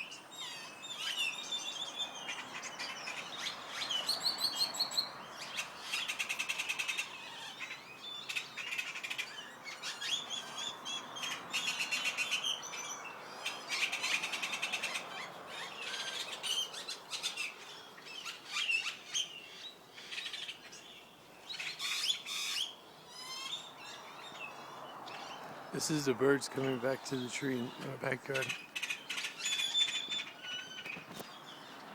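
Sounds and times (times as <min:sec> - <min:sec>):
birds chirping and trilling: 0:00.0 - 0:31.9.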